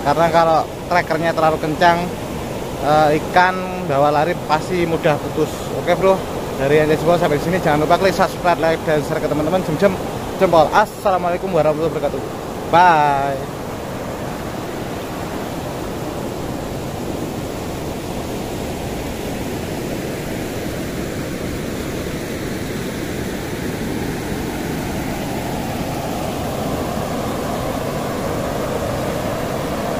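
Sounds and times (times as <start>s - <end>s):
river water rushing over weir: 0.0s - 29.9s.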